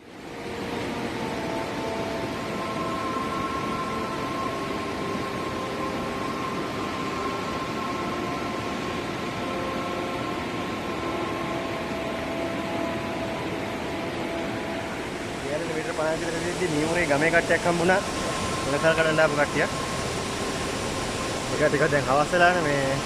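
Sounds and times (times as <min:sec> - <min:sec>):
faint steady tones: 0:00.0 - 0:23.0
waterfall rushing: 0:00.2 - 0:23.0.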